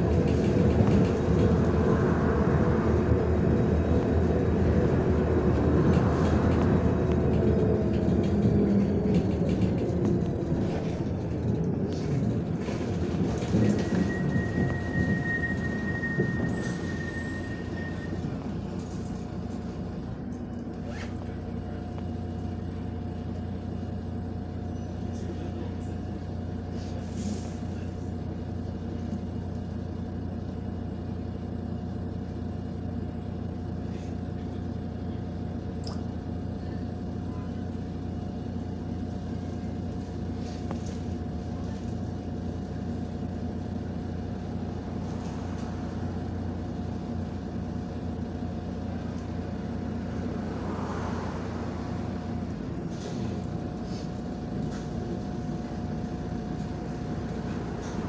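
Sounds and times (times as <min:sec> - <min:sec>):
bus engine low drone: 0:00.0 - 0:58.0.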